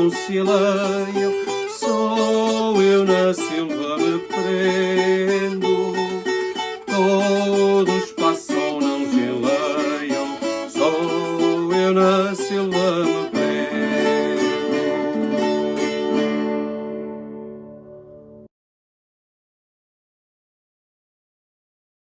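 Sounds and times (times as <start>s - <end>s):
folk guitar plucked and strummed: 0.0s - 18.5s.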